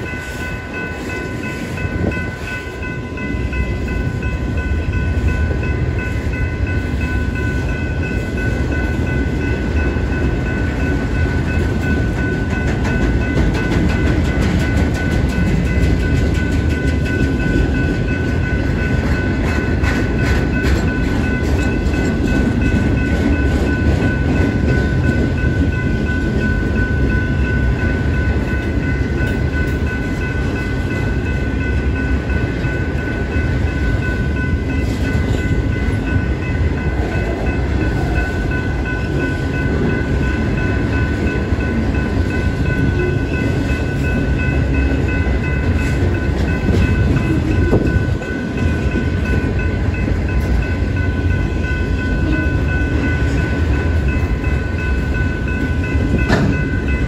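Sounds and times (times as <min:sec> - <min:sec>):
freight train wheels clattering: 0:00.0 - 0:57.0
high ringing tones: 0:00.0 - 0:57.0.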